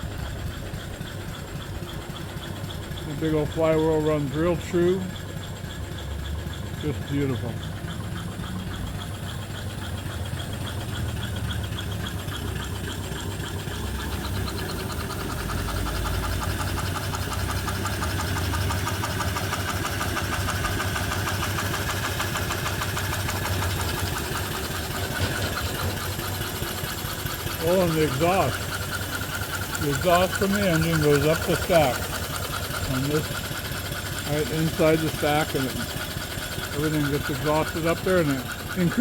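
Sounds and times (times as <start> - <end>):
steam engine running: 0.0 - 39.0.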